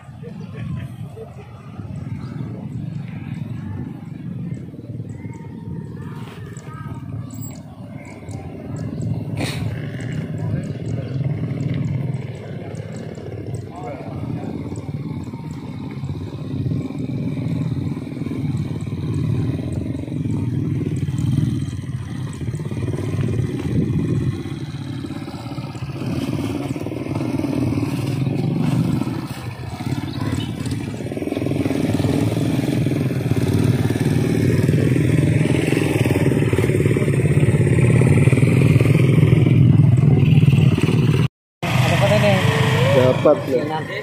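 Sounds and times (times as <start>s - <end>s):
small motorcycle engine droning: 0.0s - 44.0s.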